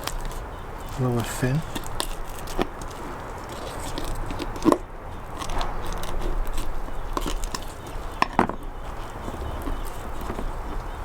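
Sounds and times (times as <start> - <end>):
knife cutting fish with crunches: 1.7 - 11.0.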